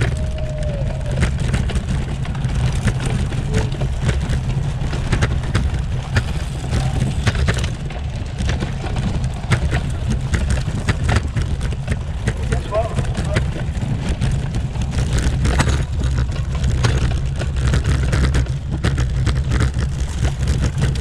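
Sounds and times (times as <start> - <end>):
bicycle rattling over cobblestones: 0.0 - 21.0.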